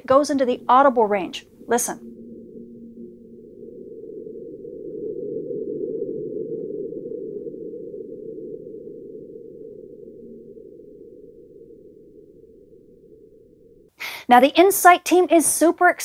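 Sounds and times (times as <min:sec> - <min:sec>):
low rumble: 0:00.0 - 0:13.9.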